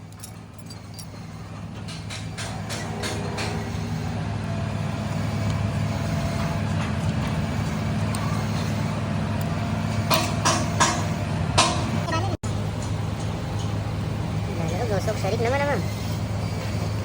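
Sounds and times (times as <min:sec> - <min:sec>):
low mechanical engine hum: 0:00.0 - 0:17.0.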